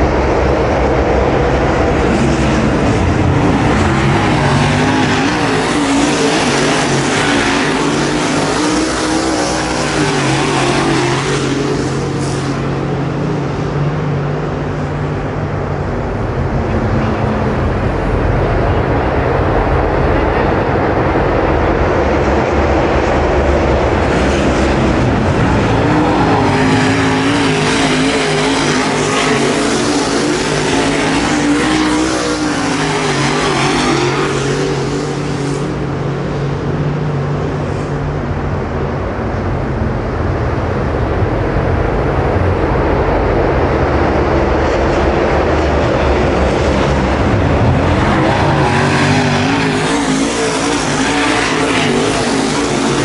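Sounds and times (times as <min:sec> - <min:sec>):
car engine passing close: 0:00.0 - 0:53.0
race car engines roaring: 0:00.0 - 0:53.0.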